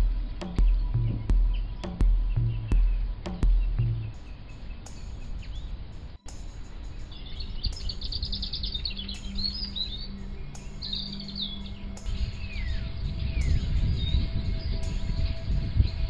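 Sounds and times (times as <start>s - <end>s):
birds singing and calling: 0.0s - 16.0s
low rumble: 0.0s - 16.0s.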